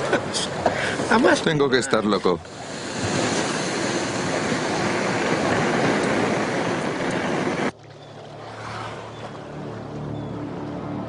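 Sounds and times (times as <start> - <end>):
wind and sea rushing: 0.0 - 11.0.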